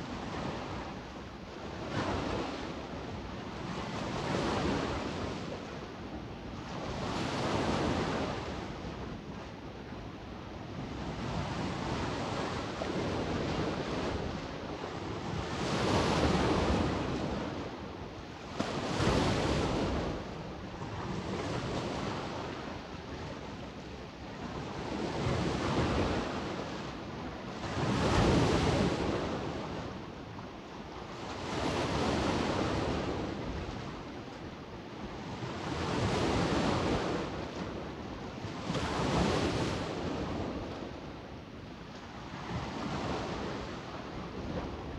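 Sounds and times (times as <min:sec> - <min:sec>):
waves washing onto shore: 0:00.0 - 0:44.9.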